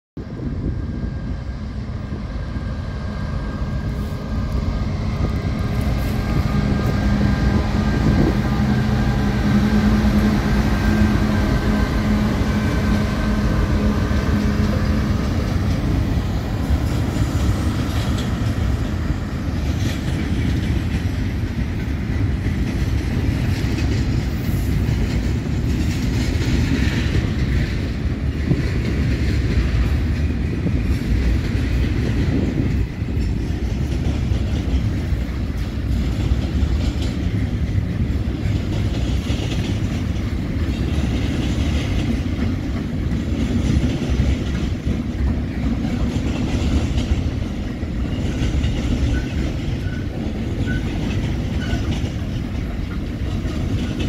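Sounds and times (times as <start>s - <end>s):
locomotive engine drone: 0.2s - 54.0s
train wheels clattering over rails: 3.6s - 54.0s.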